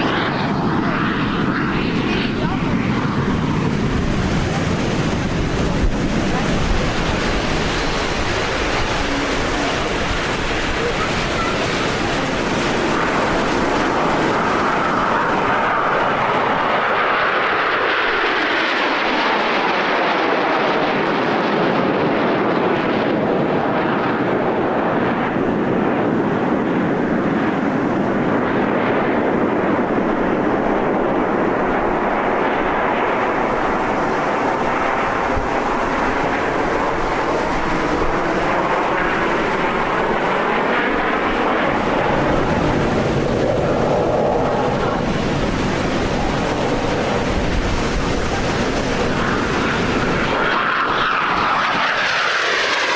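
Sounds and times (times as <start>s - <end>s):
jets flying past: 0.0s - 52.9s.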